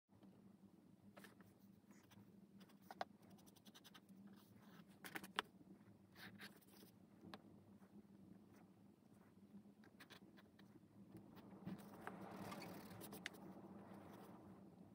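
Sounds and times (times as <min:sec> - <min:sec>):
faint low hum: 0:00.1 - 0:14.9.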